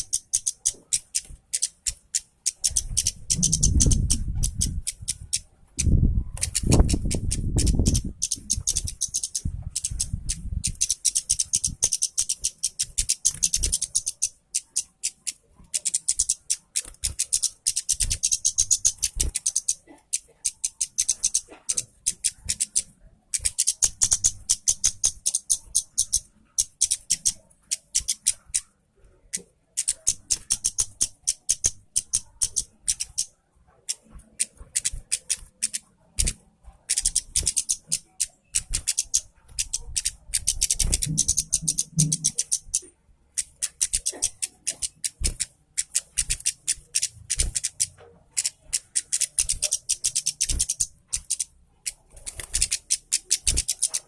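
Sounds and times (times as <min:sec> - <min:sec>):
songbird chattering song: 0:00.0 - 0:28.6, 0:29.2 - 0:54.0.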